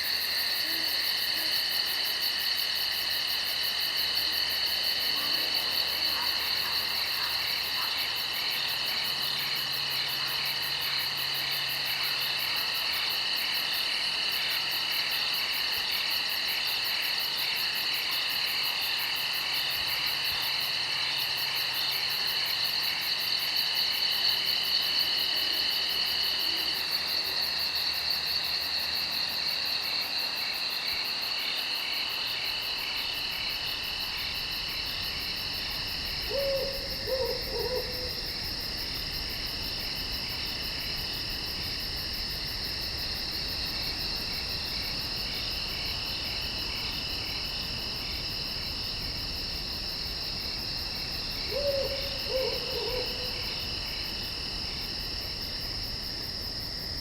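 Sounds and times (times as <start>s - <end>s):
crickets and insects trilling: 0.0s - 57.0s.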